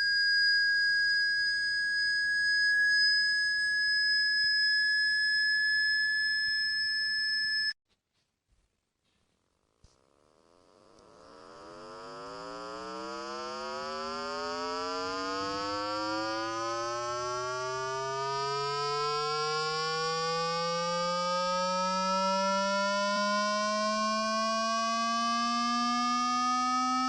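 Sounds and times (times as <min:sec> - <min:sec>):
low buzzy electronic tone: 0:00.0 - 0:07.7, 0:10.0 - 0:27.0.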